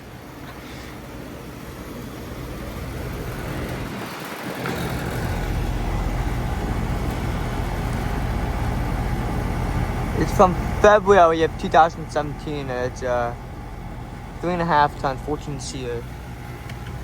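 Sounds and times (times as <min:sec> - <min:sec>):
compressor hum: 0:00.0 - 0:17.0
condenser fan whoosh: 0:00.0 - 0:17.0.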